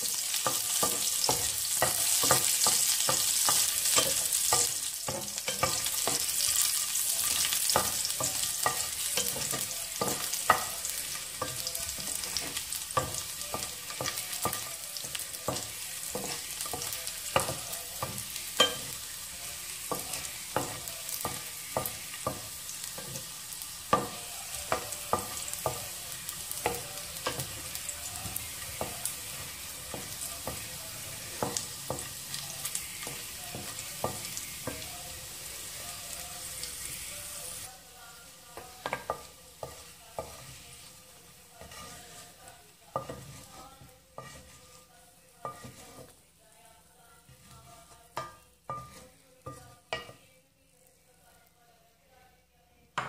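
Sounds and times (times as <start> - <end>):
spatula scraping a wok: 0.0 - 46.2, 47.2 - 50.2
garlic sizzling in hot oil: 0.0 - 50.2.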